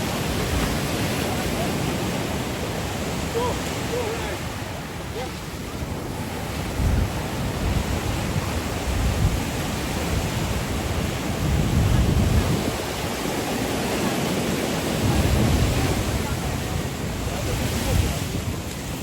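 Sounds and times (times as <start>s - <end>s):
surf washing onto sand: 0.0s - 19.0s
wind buffeting microphone: 0.0s - 19.0s.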